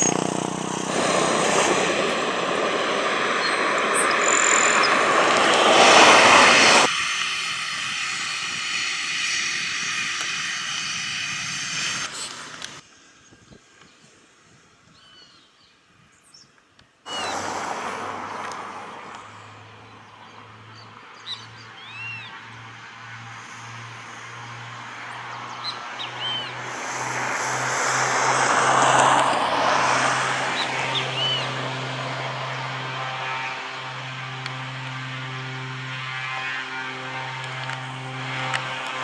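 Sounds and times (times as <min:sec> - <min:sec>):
birds chirping: 0:00.0 - 0:06.9, 0:11.8 - 0:39.0
aircraft engine noise: 0:00.0 - 0:12.9, 0:17.1 - 0:39.0.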